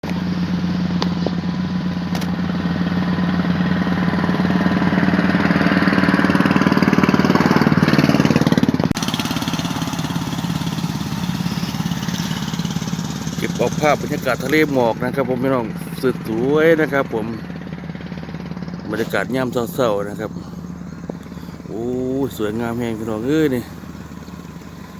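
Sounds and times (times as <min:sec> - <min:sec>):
small engine running: 0:00.0 - 0:24.9.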